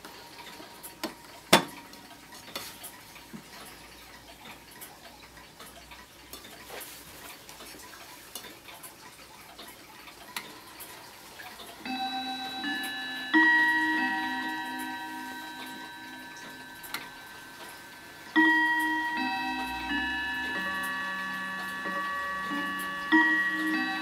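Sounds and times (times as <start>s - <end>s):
clock ticking: 0.0s - 24.0s.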